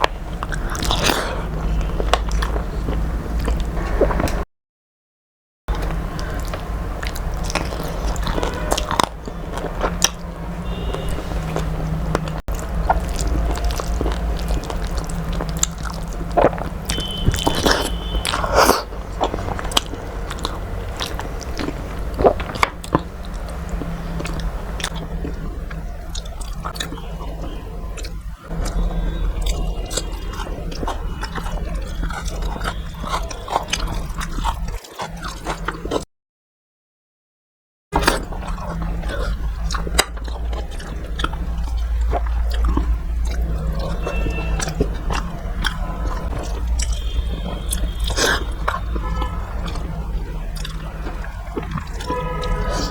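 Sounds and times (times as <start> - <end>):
person chewing food: 0.0 - 4.4, 5.7 - 36.0, 38.0 - 52.9.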